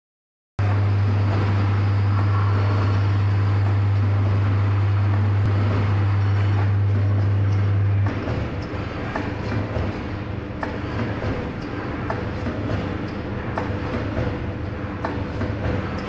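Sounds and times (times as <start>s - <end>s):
faint workshop noise: 0.6s - 16.0s
low electrical hum: 0.6s - 16.0s.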